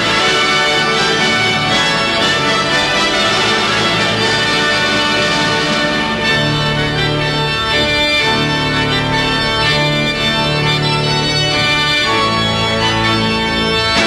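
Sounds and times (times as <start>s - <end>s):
organ sustained chords: 0.0s - 14.0s.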